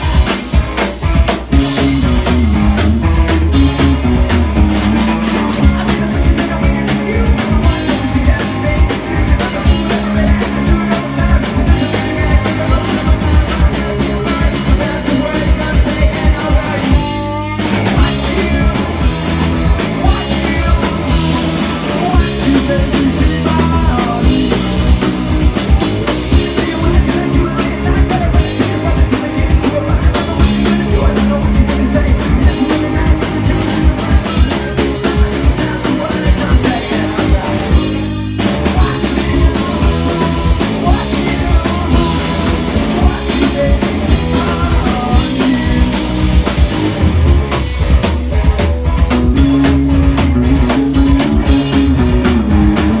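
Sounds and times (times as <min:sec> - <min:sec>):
drum kit: 0:00.0 - 0:53.0
live rock band playing: 0:00.0 - 0:53.0.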